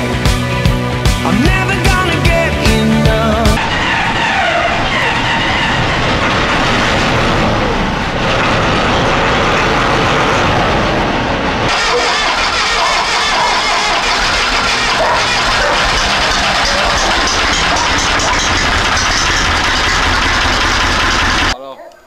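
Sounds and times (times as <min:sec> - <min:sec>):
combine harvester running: 0:00.0 - 0:21.6.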